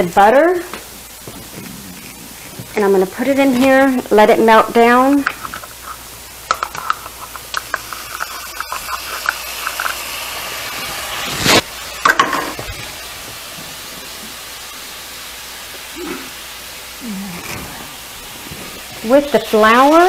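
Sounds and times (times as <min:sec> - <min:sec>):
butter sizzling in skillet: 0:00.0 - 0:17.0, 0:17.9 - 0:20.0.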